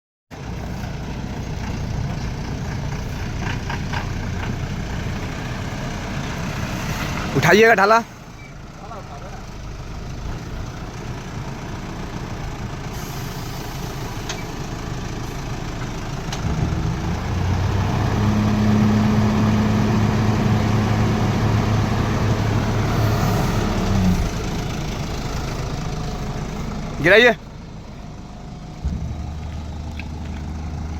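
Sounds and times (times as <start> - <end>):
diesel truck engine revving: 0.4 - 30.9.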